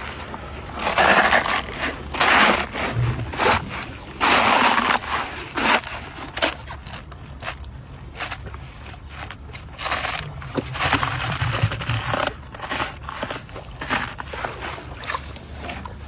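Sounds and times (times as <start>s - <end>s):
hippo crunching cabbage: 0.0s - 16.0s.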